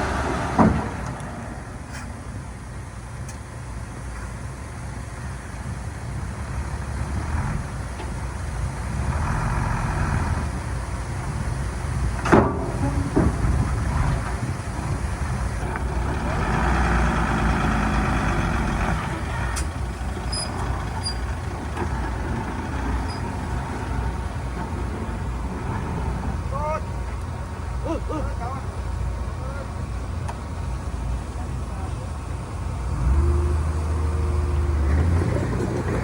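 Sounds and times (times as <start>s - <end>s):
heavy machinery engine running: 0.0s - 36.0s.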